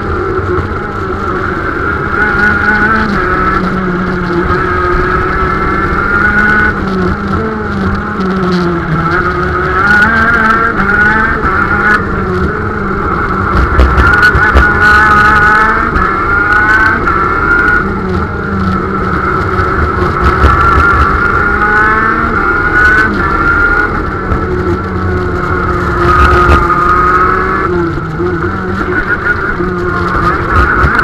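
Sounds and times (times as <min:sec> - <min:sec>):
high-pitched kart engine revving: 0:00.0 - 0:31.0.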